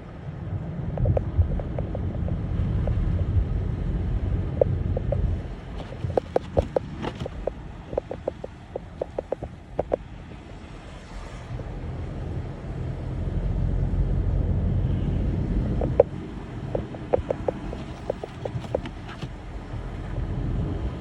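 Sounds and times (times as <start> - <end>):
car rumbling on the move: 0.0 - 21.0.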